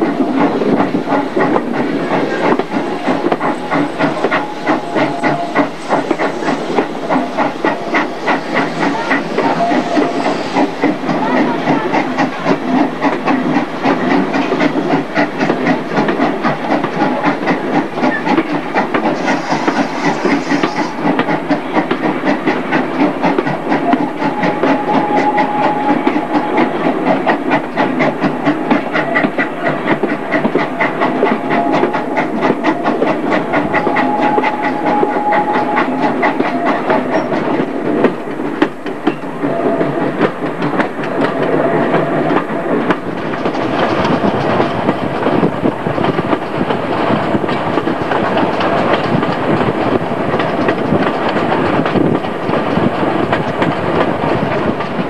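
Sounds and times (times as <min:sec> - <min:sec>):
passing train: 0:00.0 - 0:55.0
rapid clicking of wheels on rails: 0:00.0 - 0:55.0
train coaches rattling rumble: 0:00.0 - 0:55.0.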